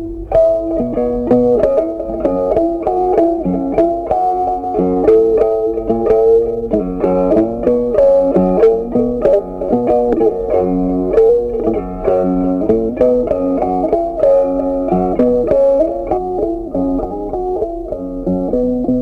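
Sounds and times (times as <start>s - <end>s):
plucked guitar tune: 0.0s - 19.0s.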